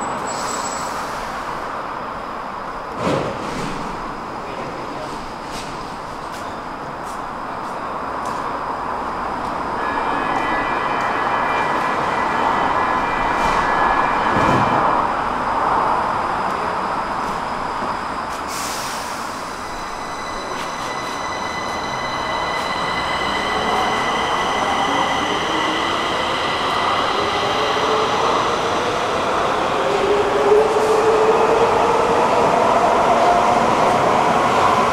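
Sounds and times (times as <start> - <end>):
metro train rumble and whine: 0.0 - 34.9.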